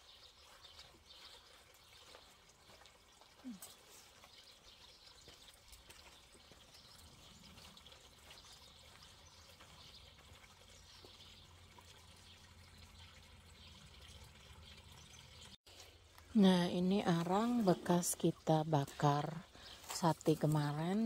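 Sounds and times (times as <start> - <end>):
faint fountain water trickle: 0.0 - 21.0.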